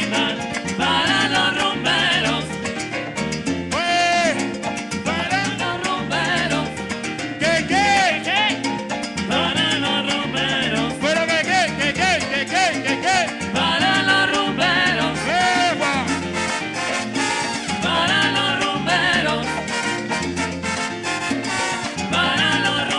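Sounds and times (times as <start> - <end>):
live band playing latin dance music: 0.0 - 22.9.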